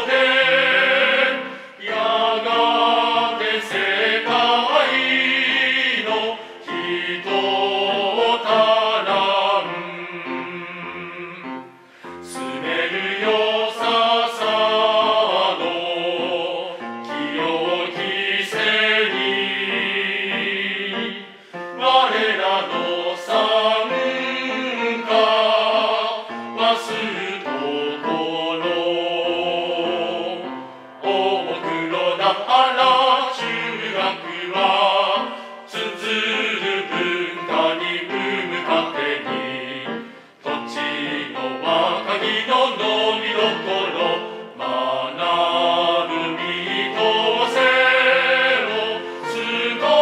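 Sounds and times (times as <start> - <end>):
male voice choir singing: 0.0 - 50.0
piano accompaniment: 0.0 - 50.0.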